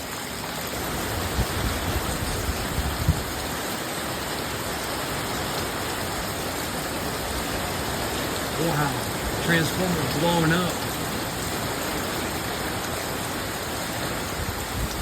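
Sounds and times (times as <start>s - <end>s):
heavy rain hissing: 0.0s - 15.0s
wind: 0.0s - 15.0s.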